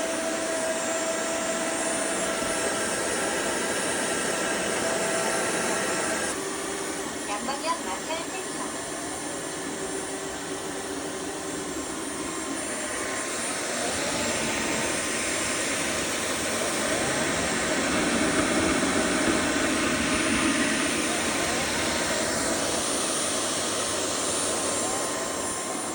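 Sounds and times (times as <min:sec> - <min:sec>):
floor washer motor whine: 0:00.0 - 0:25.9.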